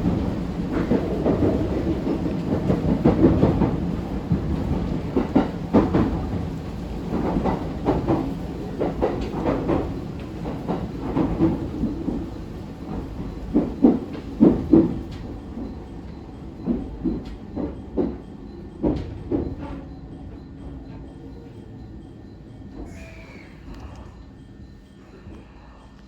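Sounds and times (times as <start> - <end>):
train wheels clacking over rail joints: 0.0 - 21.6
train running rumble: 0.0 - 26.0.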